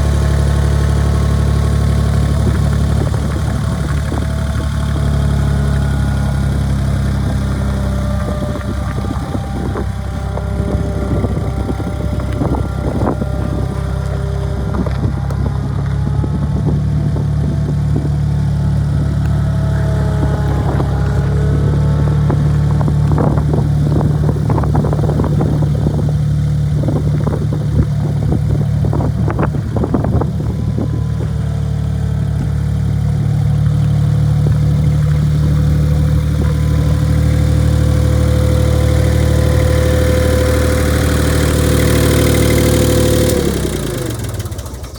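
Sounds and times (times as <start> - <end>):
skid steer loader engine running: 0.0 - 44.9.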